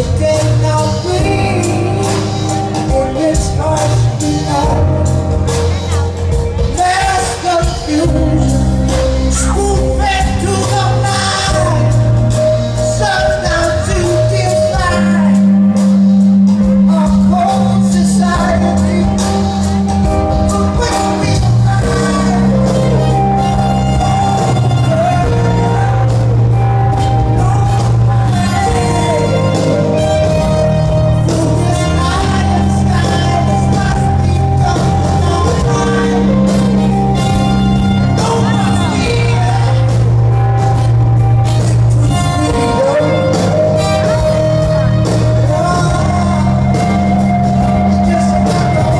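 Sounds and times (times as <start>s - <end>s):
live rock band playing: 0.0s - 48.9s
male vocalist singing: 0.0s - 48.9s.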